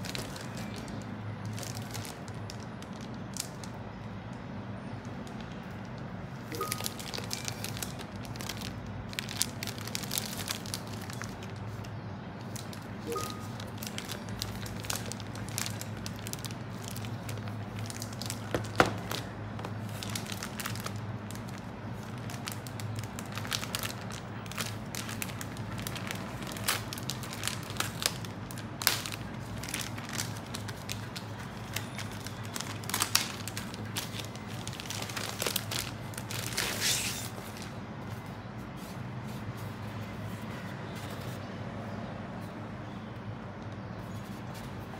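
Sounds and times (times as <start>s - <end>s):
plastic bag crinkling: 0.0s - 3.8s, 5.1s - 38.3s.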